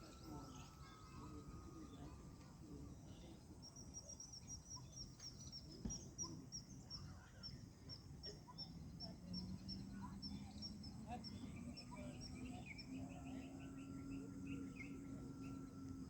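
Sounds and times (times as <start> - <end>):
small bird chirping: 3.0 - 16.0.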